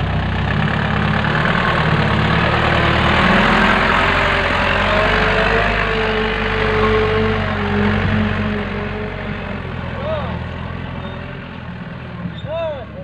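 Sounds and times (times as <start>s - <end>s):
diesel truck driving past: 0.0s - 13.0s.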